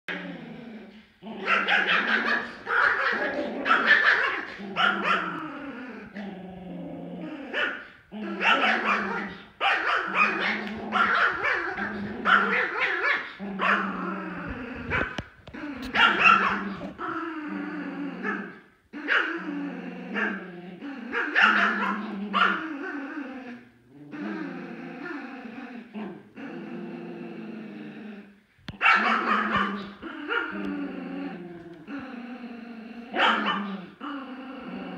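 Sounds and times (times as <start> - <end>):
small dogs growling and barking: 0.0 - 34.9.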